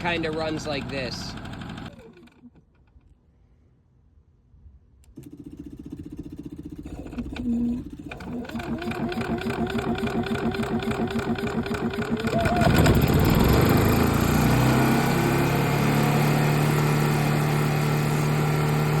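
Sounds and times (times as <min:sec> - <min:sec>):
generator engine running rough: 0:00.0 - 0:02.0, 0:05.2 - 0:19.0.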